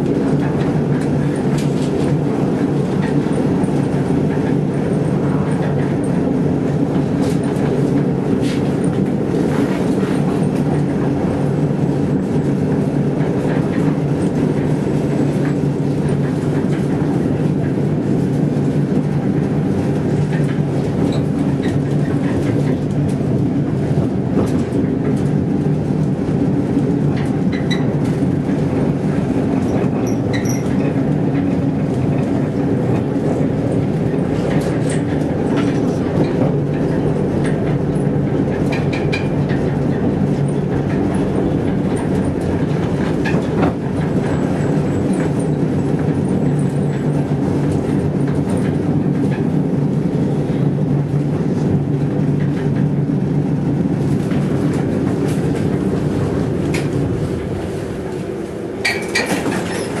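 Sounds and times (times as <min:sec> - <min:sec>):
tram wheels rumbling on rails: 0:00.0 - 1:00.0.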